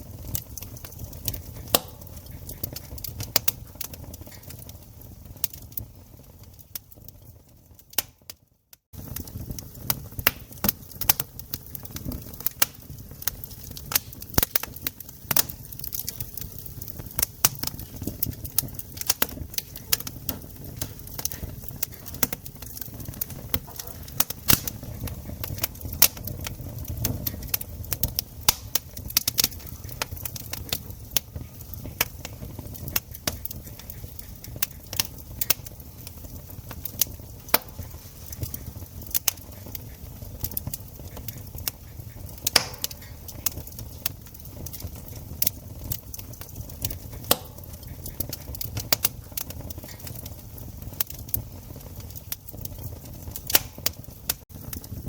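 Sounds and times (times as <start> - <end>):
flames rushing: 0.0 - 8.2, 8.9 - 55.0
wood crackling and popping: 0.0 - 55.0.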